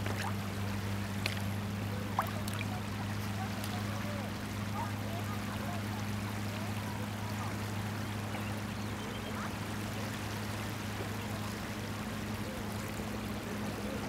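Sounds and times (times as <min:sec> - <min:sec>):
sea waves washing on beach: 0:00.0 - 0:14.0
steady low hum: 0:00.0 - 0:14.0.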